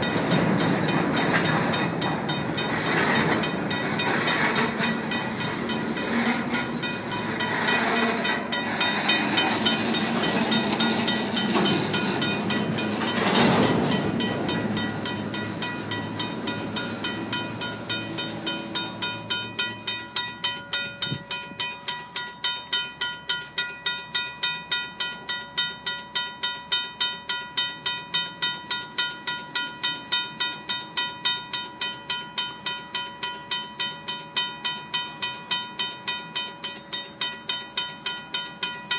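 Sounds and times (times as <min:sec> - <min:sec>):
crossing bell ringing: 0:00.0 - 0:38.9
train wheels rumbling on rails: 0:00.0 - 0:38.9.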